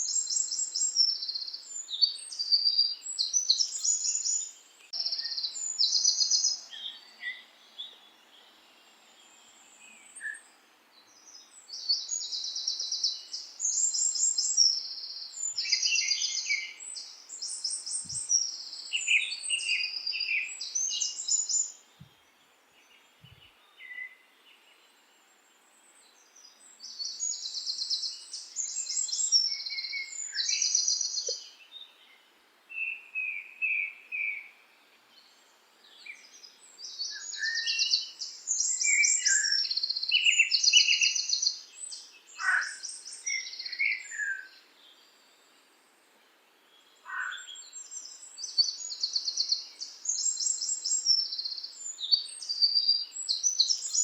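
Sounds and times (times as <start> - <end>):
faint outdoor background hiss: 0.0 - 54.0
songbirds trilling and chirping: 0.0 - 54.0.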